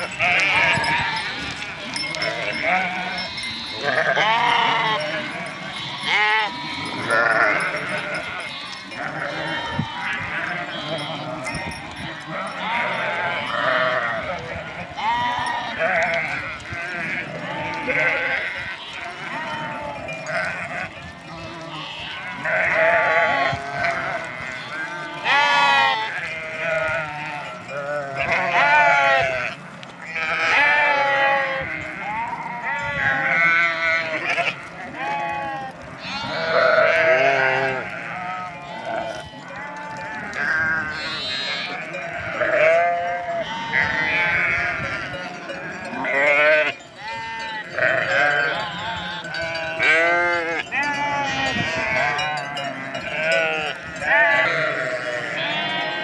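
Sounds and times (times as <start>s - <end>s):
sheep bleating: 0.0s - 56.0s.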